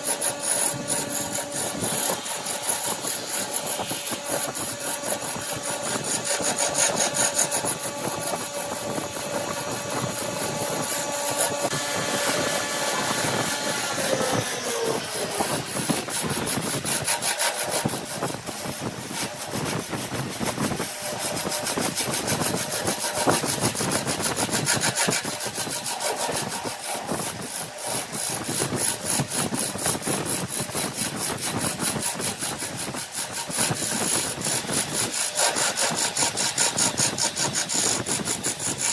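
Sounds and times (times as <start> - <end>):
tool scraping spinning wood: 0.0 - 38.9
wood lathe motor hum: 0.0 - 38.9.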